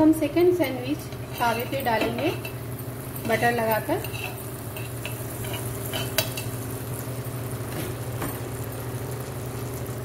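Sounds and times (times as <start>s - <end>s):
butter sizzling on a griddle: 1.2s - 10.0s.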